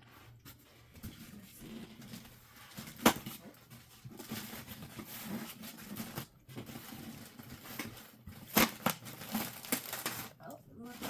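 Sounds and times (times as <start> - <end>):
rustling of packing materials: 0.0 - 11.0.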